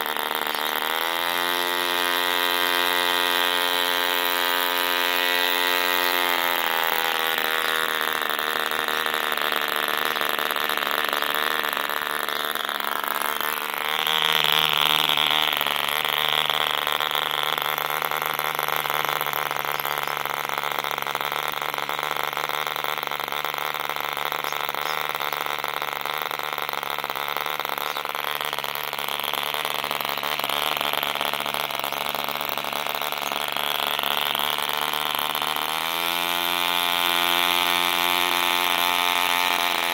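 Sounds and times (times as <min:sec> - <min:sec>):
model engine running at high speed: 0:00.0 - 0:39.9.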